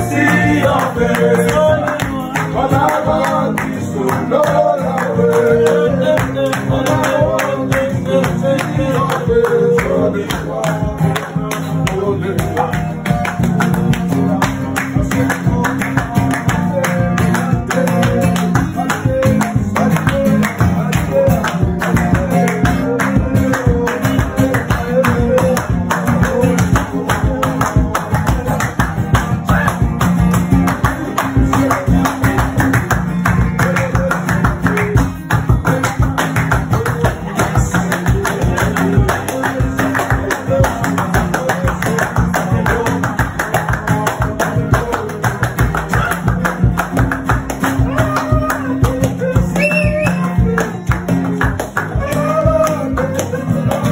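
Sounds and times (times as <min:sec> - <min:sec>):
acoustic guitar fast strumming: 0:00.0 - 0:53.9.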